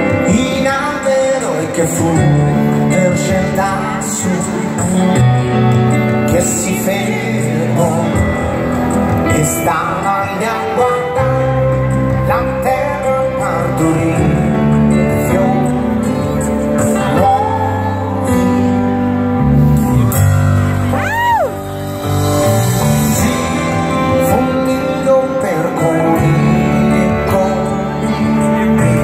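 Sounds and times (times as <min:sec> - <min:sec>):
lead singer singing: 0:00.0 - 0:29.0
live rock band playing: 0:00.0 - 0:29.0.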